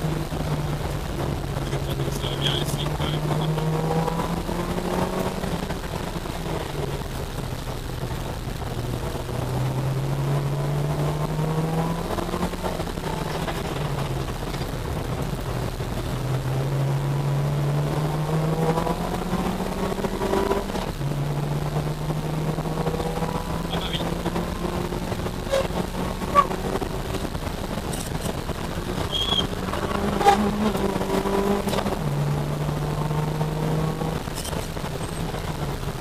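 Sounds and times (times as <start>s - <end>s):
car engine accelerating: 0.0s - 36.0s
road and wind noise: 0.0s - 36.0s.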